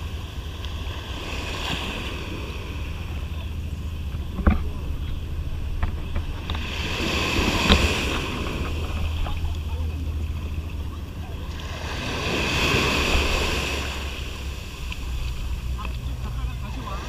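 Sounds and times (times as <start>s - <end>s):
small waves washing on shore: 0.0s - 17.0s
wind rumble on microphone: 0.0s - 17.0s.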